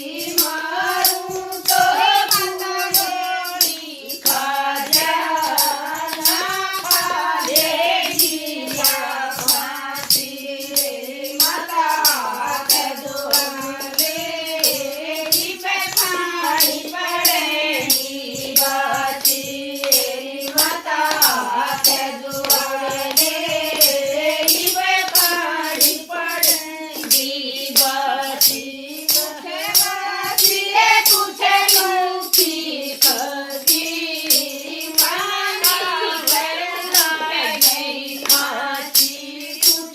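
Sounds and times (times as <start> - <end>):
group singing devotional song: 0.0 - 39.9
jingling percussion beat: 0.0 - 39.9.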